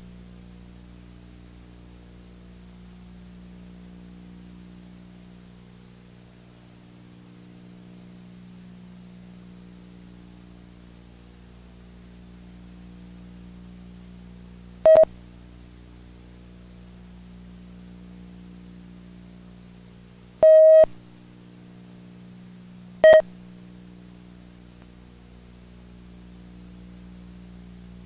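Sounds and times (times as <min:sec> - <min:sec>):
steady electrical hum: 0:00.0 - 0:28.0.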